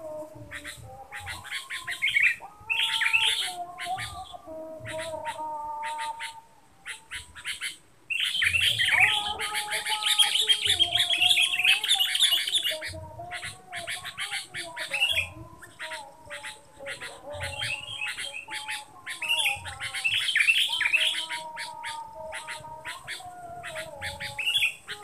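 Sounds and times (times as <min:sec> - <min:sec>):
birds chattering harshly: 0:00.0 - 0:25.0.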